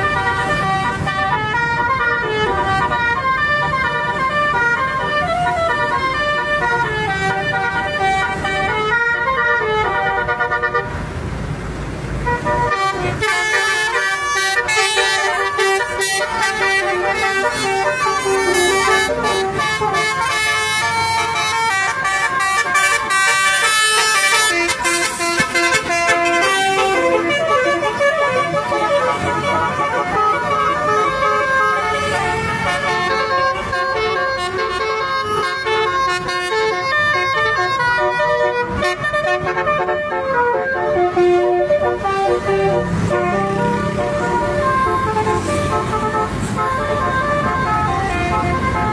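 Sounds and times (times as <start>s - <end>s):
multi-tone bus air horn melody: 0.0s - 11.2s, 12.2s - 48.9s.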